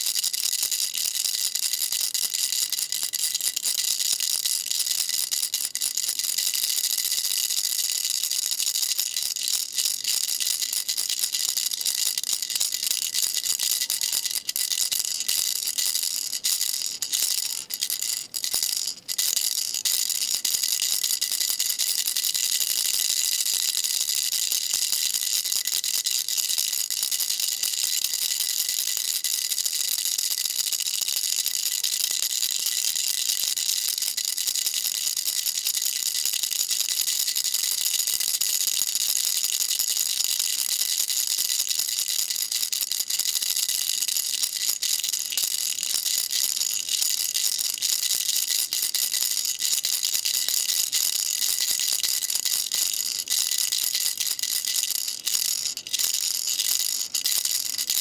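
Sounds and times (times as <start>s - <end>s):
baby rattle shaken: 0.0s - 58.0s.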